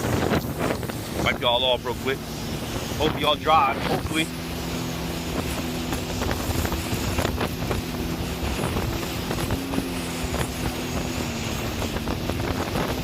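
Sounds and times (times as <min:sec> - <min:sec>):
jet ski engine droning: 0:00.0 - 0:13.0
wind buffeting microphone: 0:00.0 - 0:13.0.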